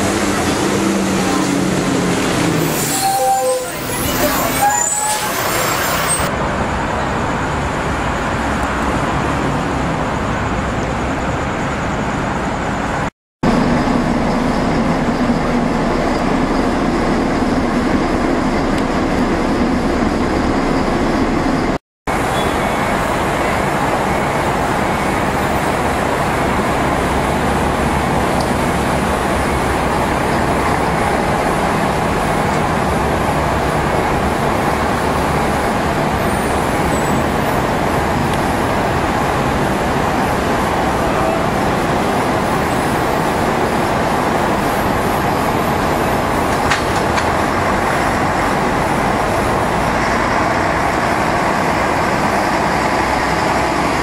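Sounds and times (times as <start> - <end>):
bus diesel engine running: 0.0 - 54.0
road and traffic noise: 0.0 - 54.0.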